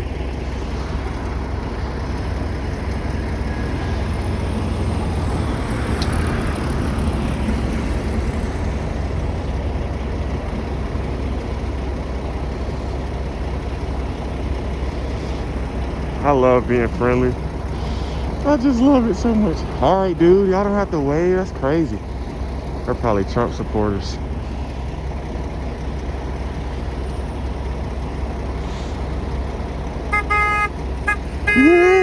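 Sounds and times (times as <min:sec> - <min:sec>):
cars passing on snowy road: 0:00.0 - 0:32.0.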